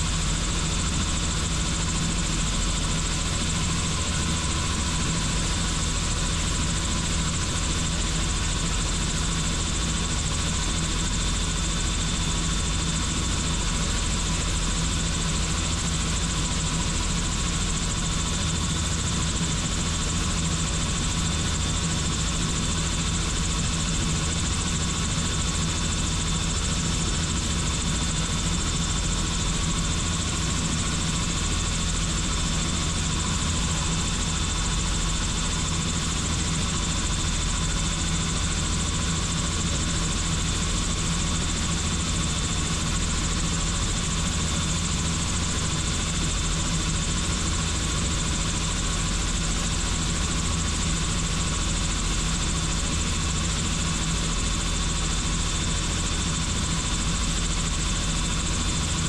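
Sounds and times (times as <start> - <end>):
helicopter flying: 0.0 - 59.0.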